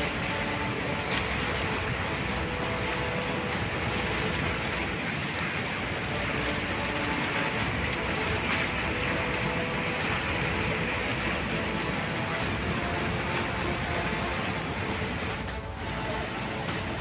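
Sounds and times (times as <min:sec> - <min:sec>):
floodwater rushing over weir: 0:00.0 - 0:17.0.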